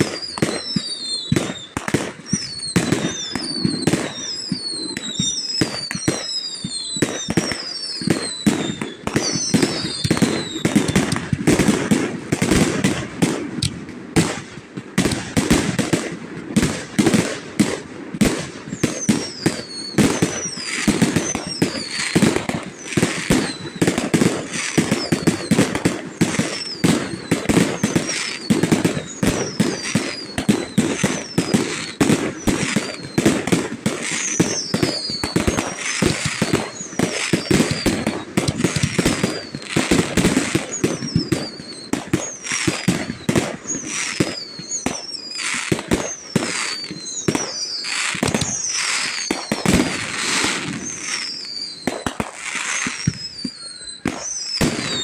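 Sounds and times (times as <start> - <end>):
falling firework whistles: 0.0 - 14.4, 16.6 - 55.0
fireworks bangs and crackling: 0.0 - 55.0.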